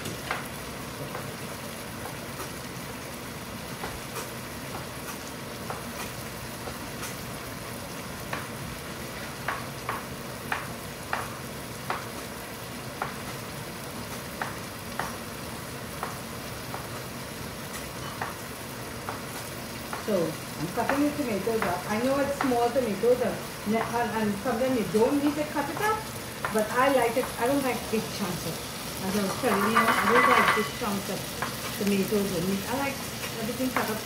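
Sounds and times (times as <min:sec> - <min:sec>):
food sizzling in a pot: 0:00.0 - 0:34.0.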